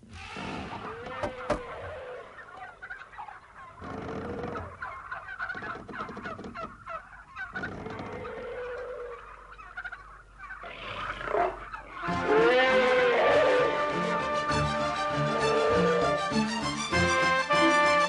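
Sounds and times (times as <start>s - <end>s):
longer held animal calls: 0.2s - 16.5s
birds chirping: 0.4s - 16.4s.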